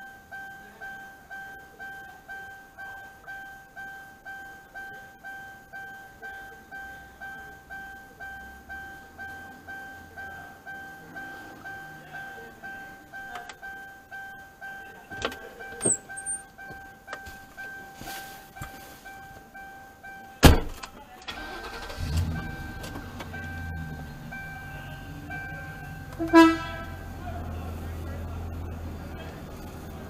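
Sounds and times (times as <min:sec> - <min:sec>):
car warning chime pulsing: 0:00.0 - 0:30.0
car engine starting and idling: 0:04.7 - 0:30.0.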